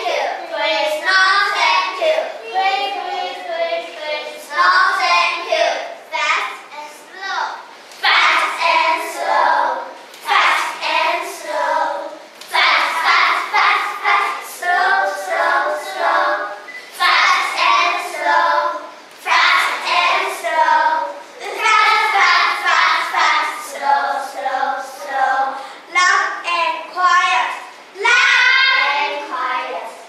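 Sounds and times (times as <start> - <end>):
children singing in unison: 0.0 - 5.9, 8.0 - 25.7, 27.9 - 29.8.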